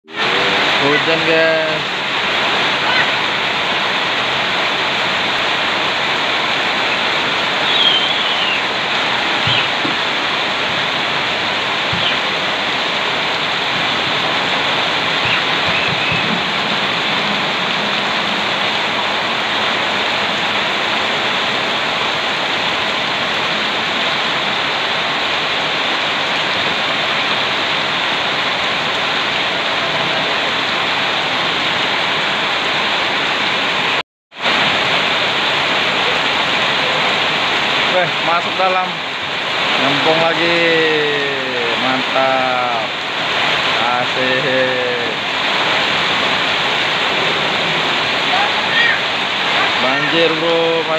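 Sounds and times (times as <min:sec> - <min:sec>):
heavy rain: 0:00.0 - 0:50.9
water rushing: 0:00.0 - 0:50.9.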